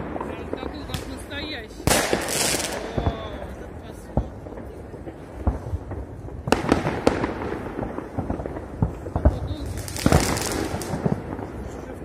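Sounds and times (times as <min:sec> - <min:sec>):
fireworks banging: 0:00.0 - 0:12.0
loud firework hiss: 0:00.0 - 0:12.0.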